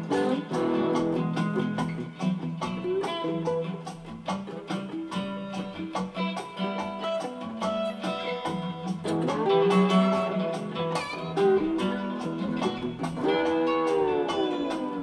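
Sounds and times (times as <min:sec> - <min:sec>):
acoustic guitar blues: 0:00.0 - 0:15.0
slide guitar gliding: 0:00.0 - 0:15.0.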